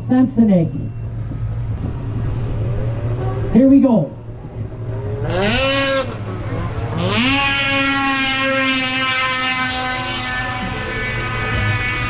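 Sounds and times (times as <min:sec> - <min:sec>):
snowmobile engines revving: 0:01.5 - 0:12.0.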